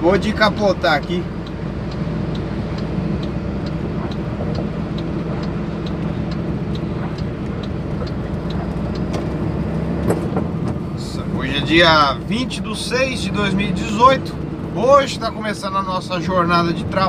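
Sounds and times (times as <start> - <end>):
light regular ticking: 0.0 - 17.0
truck engine running: 0.0 - 17.0.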